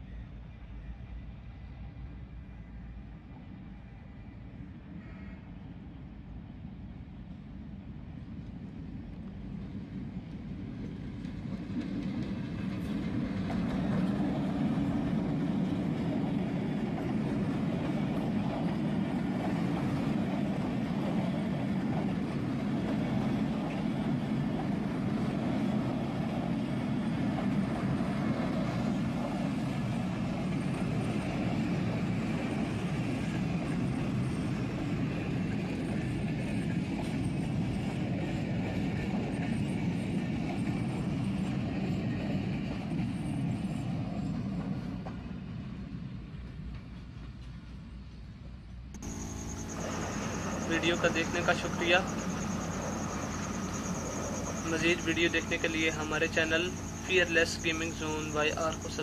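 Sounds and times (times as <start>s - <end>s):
diesel locomotives passing: 0.0s - 59.0s
wheels rumbling on rail: 0.0s - 59.0s.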